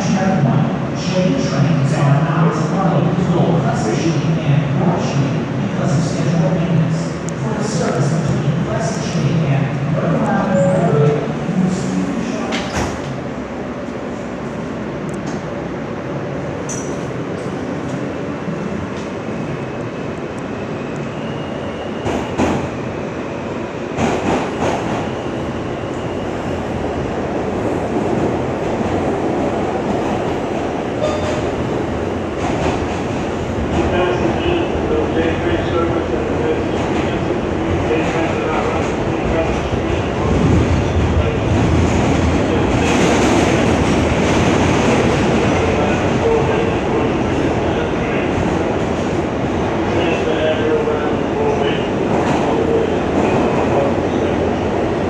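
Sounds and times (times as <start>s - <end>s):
subway car wheels rumbling on rail: 0.0s - 55.0s.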